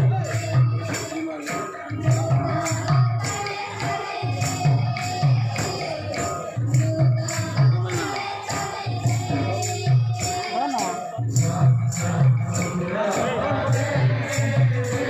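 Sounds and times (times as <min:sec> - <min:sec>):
jingling metal percussion: 0:00.0 - 0:15.0
person singing: 0:00.0 - 0:15.0.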